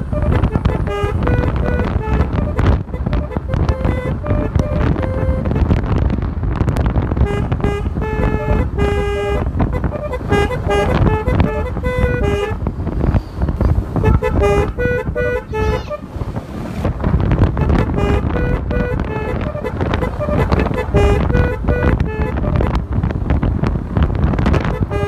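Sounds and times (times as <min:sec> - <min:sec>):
musical air horn playing a tune: 0:00.0 - 0:05.8, 0:07.3 - 0:16.1, 0:17.5 - 0:22.9, 0:24.4 - 0:25.0
wind on microphone: 0:00.0 - 0:25.0.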